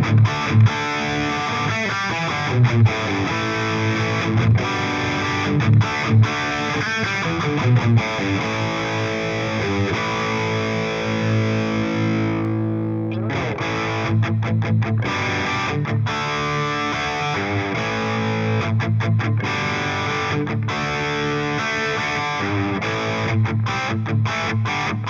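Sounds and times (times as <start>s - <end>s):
distorted electric guitar chords: 0.0s - 25.0s.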